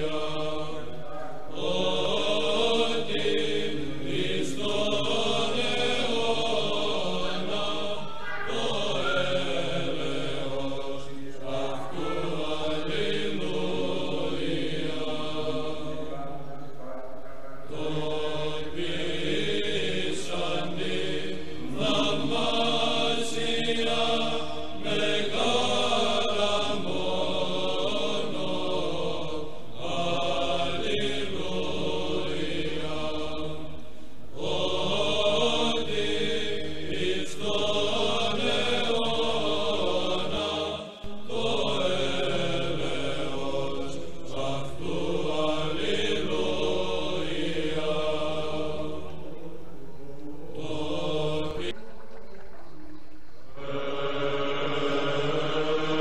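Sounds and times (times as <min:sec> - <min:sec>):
church chant over low drone: 0:00.0 - 0:56.0.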